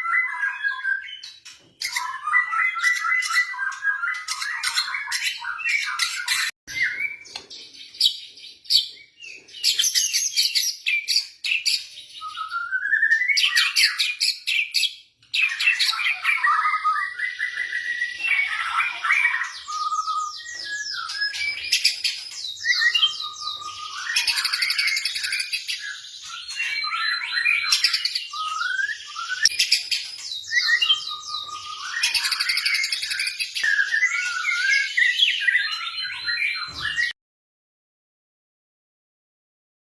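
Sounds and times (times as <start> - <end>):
songbird singing trills and whistles: 0.0 - 37.2.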